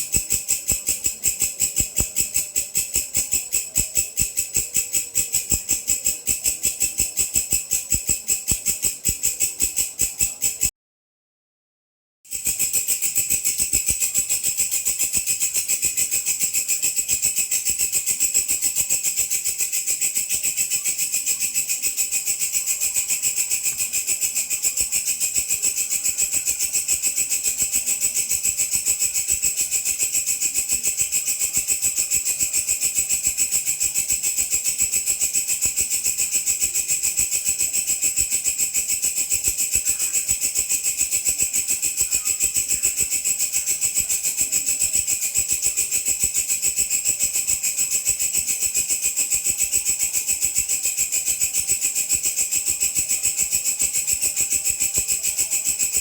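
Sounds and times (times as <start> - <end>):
grasshopper high-pitched trill: 0.0 - 10.7, 12.3 - 56.0.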